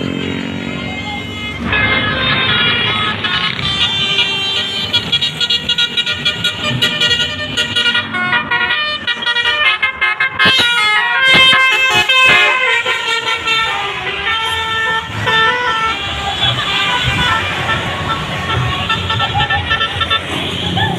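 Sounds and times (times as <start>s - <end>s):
bus musical horn tune: 1.1s - 20.6s.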